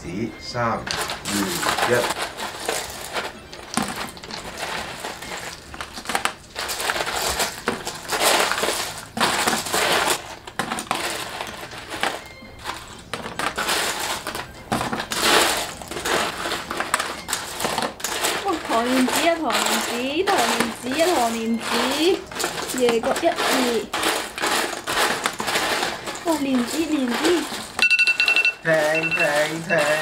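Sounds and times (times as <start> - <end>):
candied pieces rattling in box: 0.9 - 30.0
chopsticks clicking and scraping: 0.9 - 30.0.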